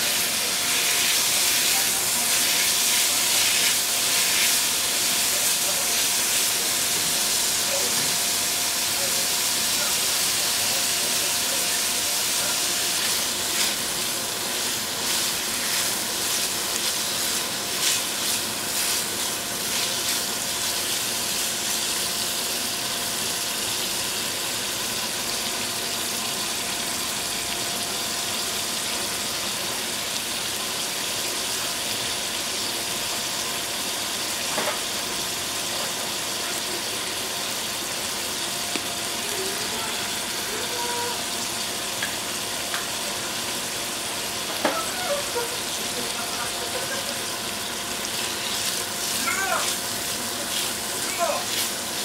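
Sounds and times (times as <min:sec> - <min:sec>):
meat sizzling in a wok: 0:00.0 - 0:52.0.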